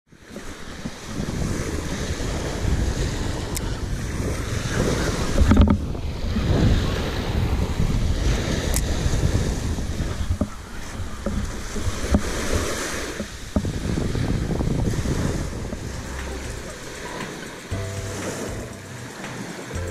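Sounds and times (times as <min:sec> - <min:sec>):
small waves breaking: 0:00.1 - 0:19.9
wind buffeting microphone: 0:00.1 - 0:19.9.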